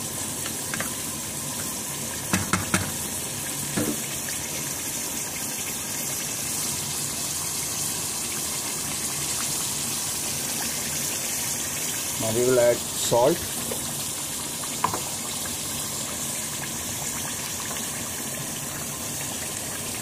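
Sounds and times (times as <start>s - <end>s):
chicken and onions sizzling in oil: 0.0s - 20.0s.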